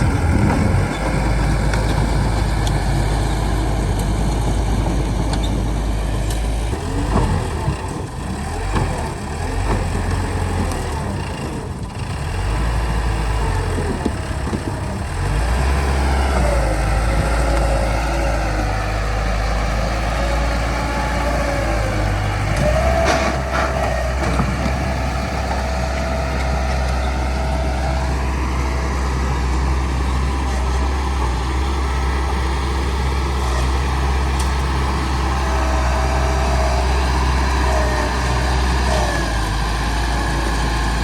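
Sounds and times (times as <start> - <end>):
bulldozer diesel engine under load: 0.0 - 41.0.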